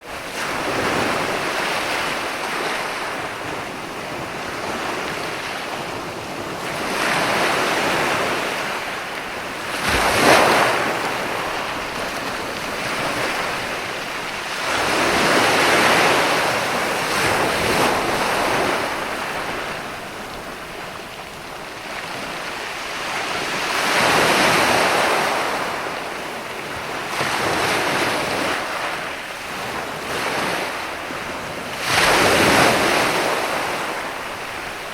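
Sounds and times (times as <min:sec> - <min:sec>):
sea waves breaking on beach: 0:00.0 - 0:34.9.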